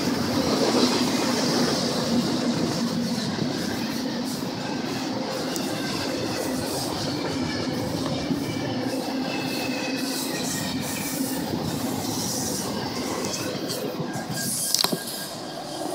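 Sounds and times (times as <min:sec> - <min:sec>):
train wheels rumbling on rails: 0:00.0 - 0:15.9
high wheel squeal: 0:02.9 - 0:15.9.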